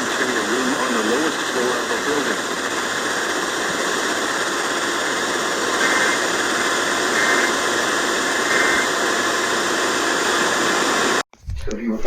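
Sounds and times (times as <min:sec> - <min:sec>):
radio static hiss: 0:00.0 - 0:12.0
short static bursts: 0:00.0 - 0:12.0.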